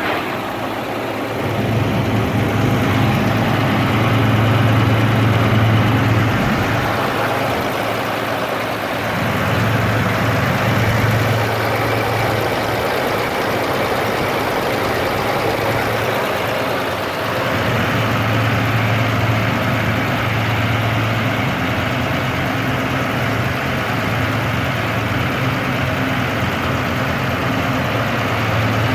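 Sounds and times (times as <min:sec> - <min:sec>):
single-cylinder engine running: 0:00.0 - 0:28.9.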